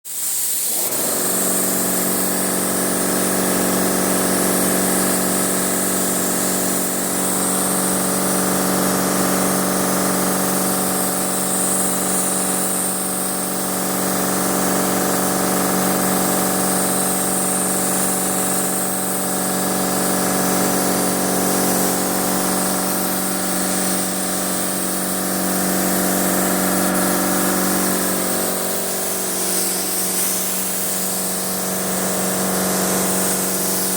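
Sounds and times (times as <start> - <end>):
spray gun hissing: 0.1 - 33.9
machine humming: 0.8 - 33.9.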